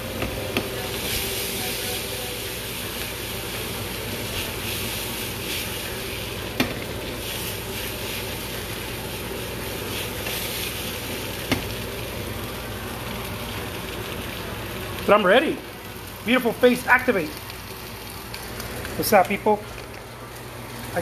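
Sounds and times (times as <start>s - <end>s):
food sizzling in a shaken pan: 0.6s - 21.0s.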